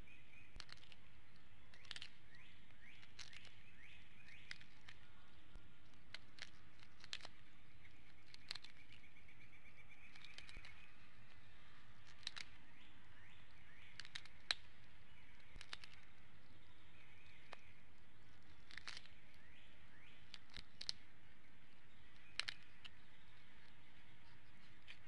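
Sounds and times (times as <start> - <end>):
faint bird chirps: 0.0 - 25.0.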